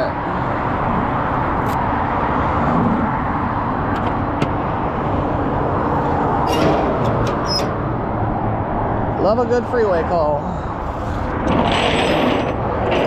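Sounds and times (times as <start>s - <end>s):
road noise rushing: 0.0s - 13.0s.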